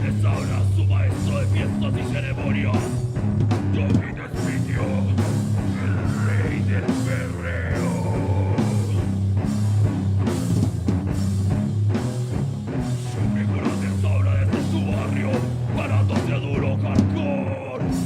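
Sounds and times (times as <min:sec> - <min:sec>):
heavy metal band playing: 0:00.0 - 0:18.0.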